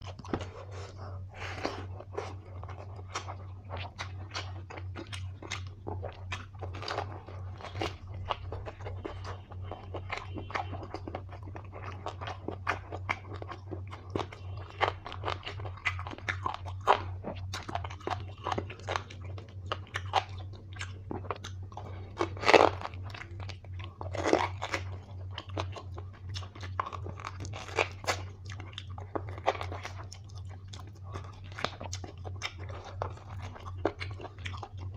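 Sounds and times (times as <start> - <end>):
chewing and crunching food: 0.0 - 34.9
steady low hum: 0.0 - 34.9.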